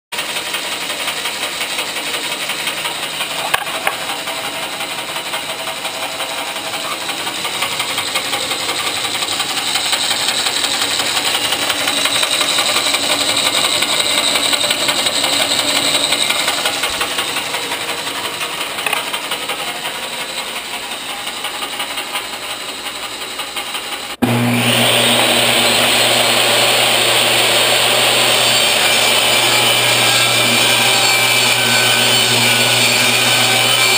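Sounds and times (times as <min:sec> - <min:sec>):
machine running: 0:00.2 - 0:33.9.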